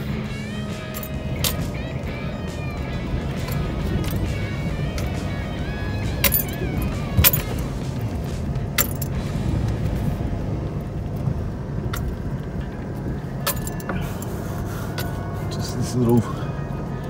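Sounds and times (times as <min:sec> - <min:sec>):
engine and tyre rumble: 0:00.0 - 0:17.0
vehicle rattles and knocks: 0:00.0 - 0:17.0.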